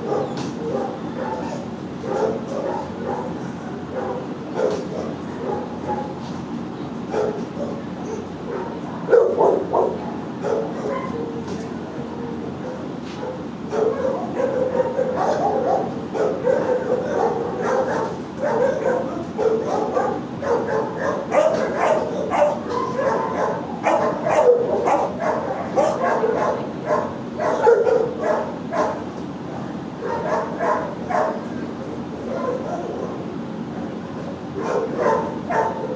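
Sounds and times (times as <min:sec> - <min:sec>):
dogs barking and yipping: 0:00.0 - 0:06.2, 0:07.1 - 0:11.4, 0:12.1 - 0:29.1, 0:30.0 - 0:31.5, 0:32.3 - 0:33.3, 0:34.6 - 0:35.9.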